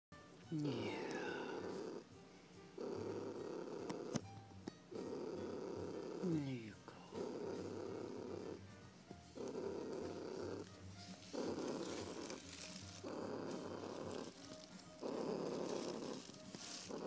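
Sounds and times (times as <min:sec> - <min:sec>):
cat purring: 0:00.2 - 0:17.0.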